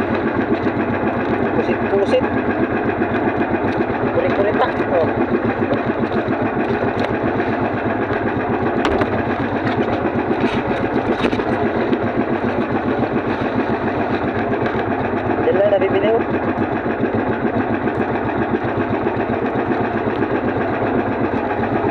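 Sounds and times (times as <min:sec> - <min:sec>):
small engine running steadily: 0:00.0 - 0:21.9.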